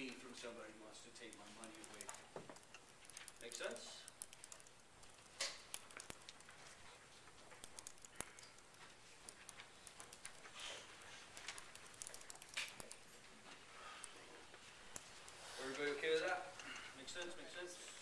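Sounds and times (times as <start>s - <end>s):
faint clicks: 1.2s - 18.0s.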